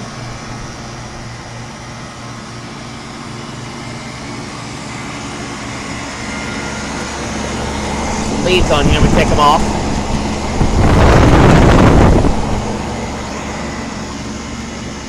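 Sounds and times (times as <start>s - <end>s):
compressor hum: 0.0s - 15.0s
condenser fans rushing: 0.0s - 15.0s.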